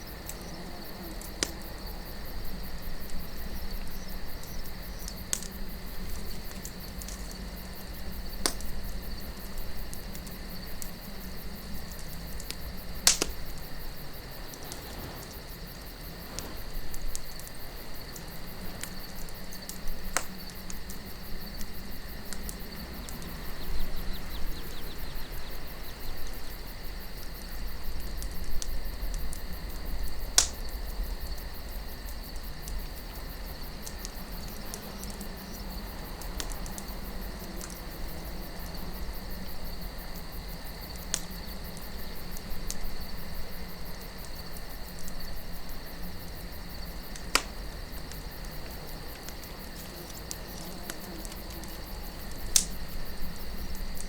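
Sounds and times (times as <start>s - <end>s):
campfire crackling and popping: 0.0s - 54.0s
crickets chirping: 0.0s - 54.0s
soft low wind: 0.0s - 54.0s.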